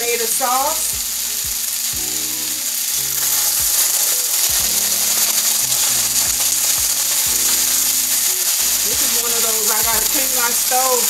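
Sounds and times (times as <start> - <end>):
background music with bass: 0.0 - 10.4
okra sizzling in a skillet: 0.0 - 11.0.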